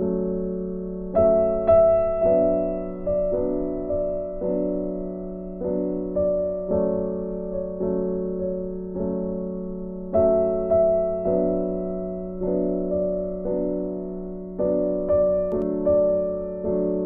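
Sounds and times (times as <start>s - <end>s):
electric piano slow melody: 0.0s - 17.0s.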